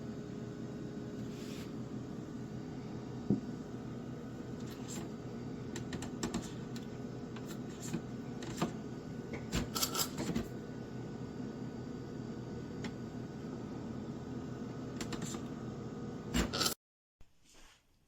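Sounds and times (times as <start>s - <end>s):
steady low hum: 0.0s - 16.7s.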